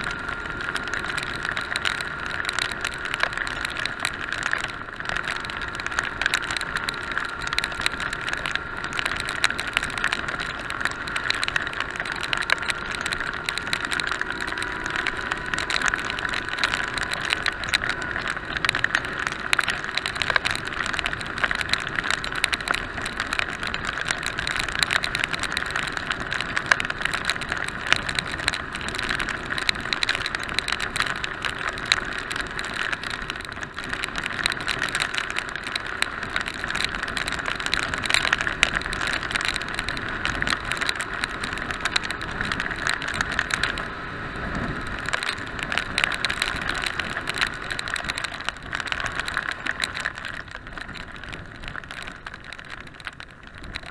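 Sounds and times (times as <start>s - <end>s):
raindrops pattering on camera: 0.0s - 53.9s
wind and wet road rush: 0.0s - 53.9s.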